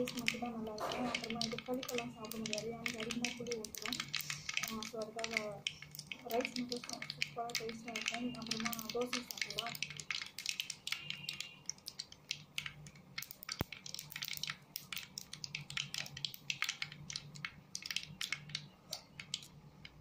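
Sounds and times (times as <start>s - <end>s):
seeds popping in hot oil: 0.0s - 20.0s.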